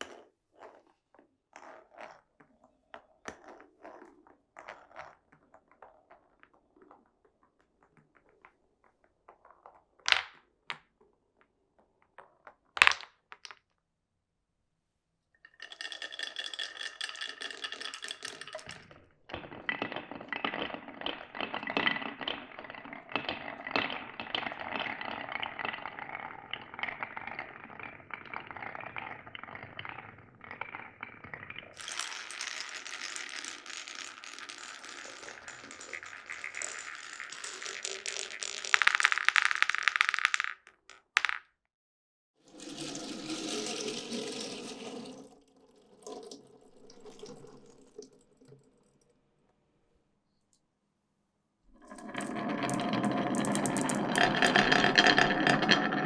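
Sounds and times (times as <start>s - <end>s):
marbles rolling on wooden track: 1.6s - 13.7s, 15.4s - 41.5s, 42.5s - 48.0s, 51.7s - 56.0s.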